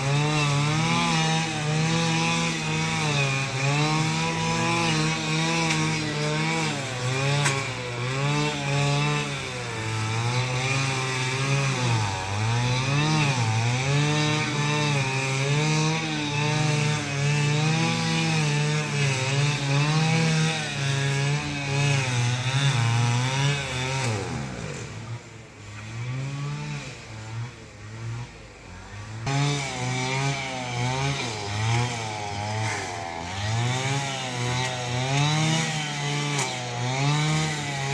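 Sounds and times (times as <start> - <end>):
small petrol engine revving: 0.0 - 37.9.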